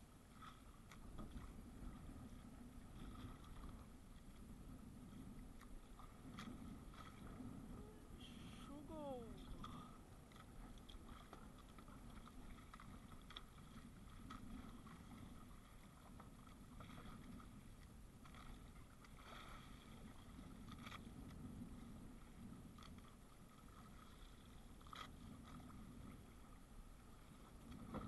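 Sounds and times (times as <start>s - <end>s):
water and wind rumble: 0.0s - 28.0s.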